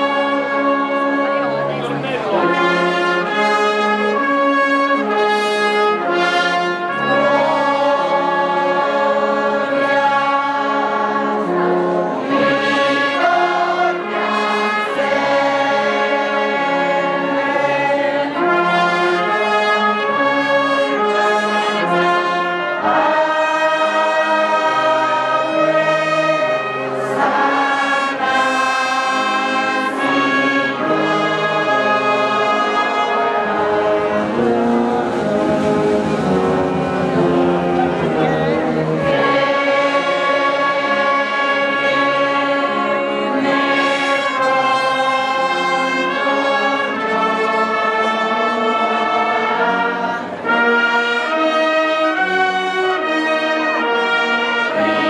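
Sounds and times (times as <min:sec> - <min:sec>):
brass band playing slow tune: 0:00.0 - 0:55.0.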